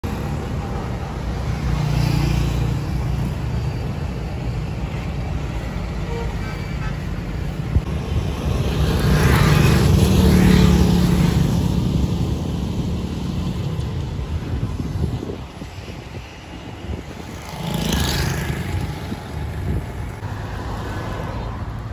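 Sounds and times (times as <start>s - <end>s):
street traffic rumble: 0.0s - 21.9s.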